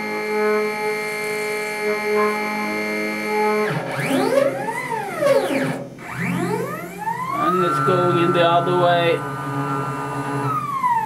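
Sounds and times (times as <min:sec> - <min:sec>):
motor whine with pitch glides: 0:00.0 - 0:11.0.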